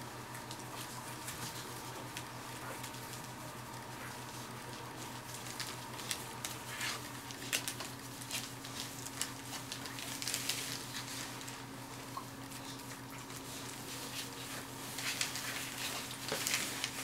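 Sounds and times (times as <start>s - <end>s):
steady low hum: 0.0s - 17.0s
newspaper rustling and crinkling: 0.4s - 17.0s.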